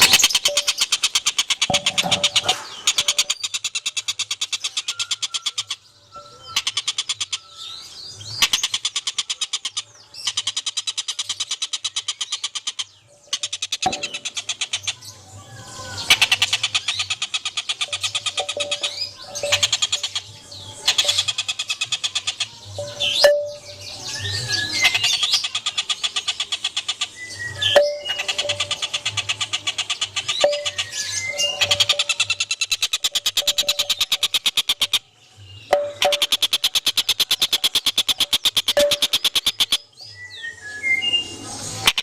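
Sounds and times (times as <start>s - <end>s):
songbird singing in rapid trills: 0.0s - 42.0s.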